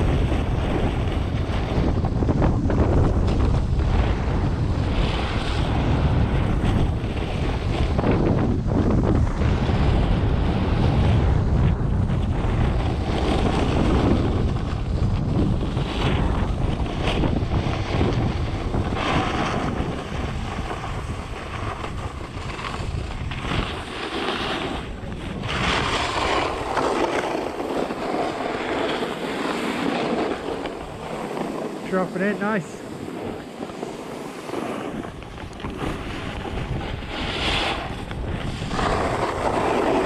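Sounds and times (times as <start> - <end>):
snowboard edges scraping snow: 0.0 - 40.0
wind buffeting microphone: 0.0 - 40.0.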